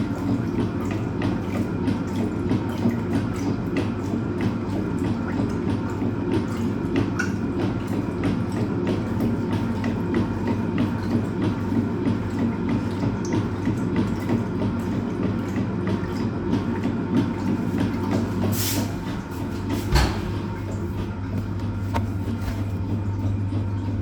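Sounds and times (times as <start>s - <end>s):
agitator churning water: 0.0s - 24.0s
washing machine motor humming: 0.0s - 24.0s.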